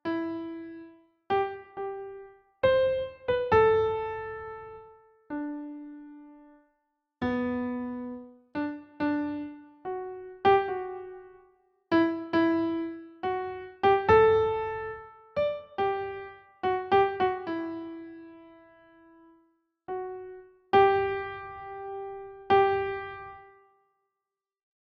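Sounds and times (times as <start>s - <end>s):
slow sparse piano: 0.0s - 23.7s.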